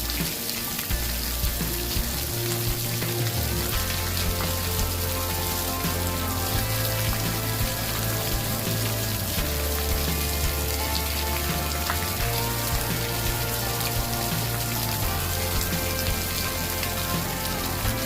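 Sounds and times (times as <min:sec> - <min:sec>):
campfire crackling and hissing: 0:00.0 - 0:18.0.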